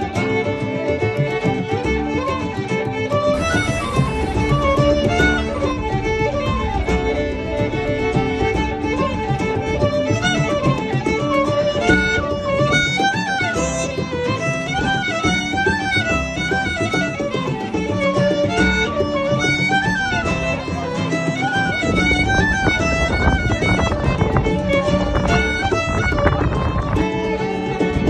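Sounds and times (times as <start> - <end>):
fiddle playing lilting melody: 0.0 - 28.0
steady musical accompaniment: 0.6 - 28.0.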